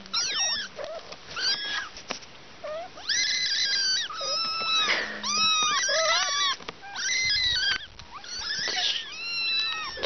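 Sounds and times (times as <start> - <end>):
kittens mewing: 0.0 - 2.0, 2.6 - 10.0.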